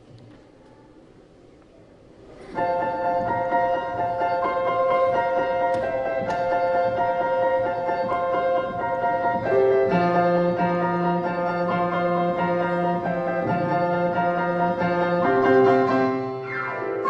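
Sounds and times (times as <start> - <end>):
piano glissando: 2.4 - 17.0
piano chords over bass line: 2.6 - 17.0.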